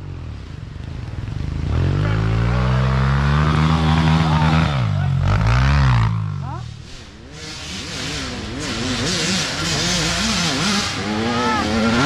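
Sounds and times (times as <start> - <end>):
dirt bike engine revving: 1.5 - 12.0.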